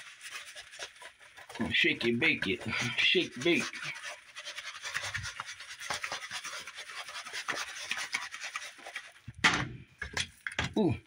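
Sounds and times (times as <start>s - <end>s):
meat shaken in plastic bowl: 0.0s - 9.3s.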